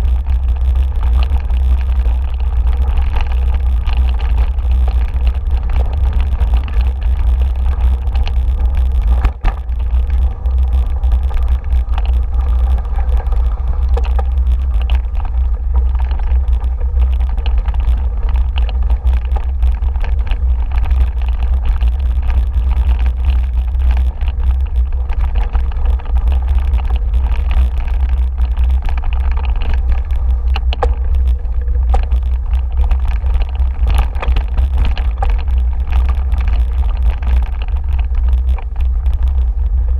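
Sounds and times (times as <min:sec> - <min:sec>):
bike rattles and knocks: 0:00.0 - 0:39.9
wind and vibration rumble: 0:00.0 - 0:39.9.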